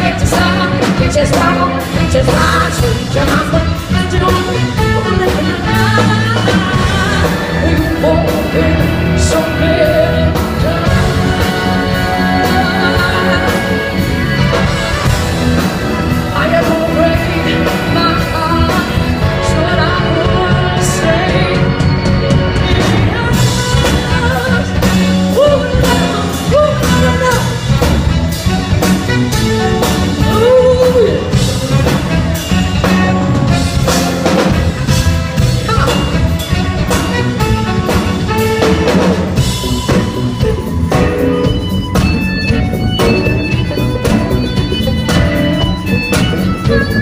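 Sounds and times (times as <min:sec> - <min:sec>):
driving drum kit: 0:00.0 - 0:47.0
horn section melody: 0:00.0 - 0:47.0
live band playing loud: 0:00.0 - 0:47.0.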